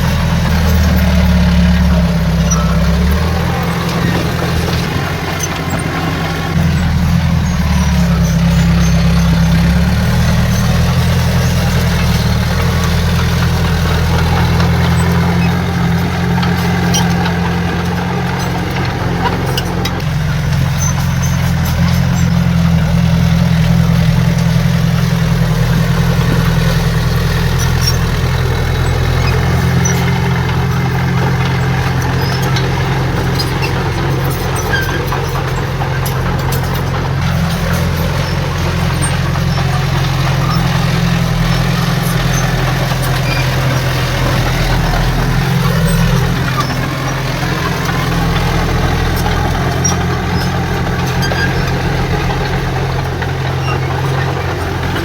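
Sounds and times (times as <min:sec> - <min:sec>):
heavy diesel engine drone: 0:00.0 - 0:55.0.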